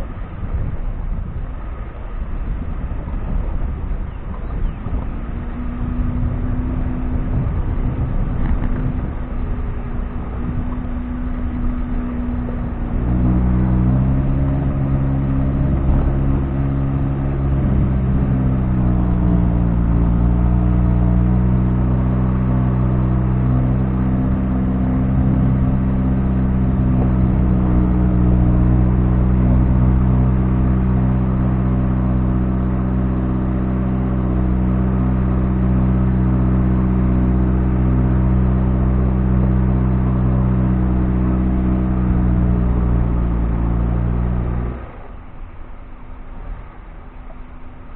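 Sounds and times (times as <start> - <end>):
vehicle engine under load: 0.0 - 47.9.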